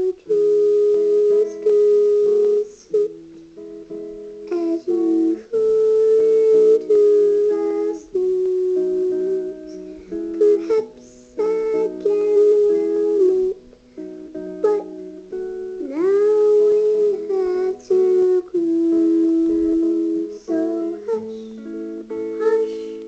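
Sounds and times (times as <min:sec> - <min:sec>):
lullaby on plucked strings: 0:00.0 - 0:23.0.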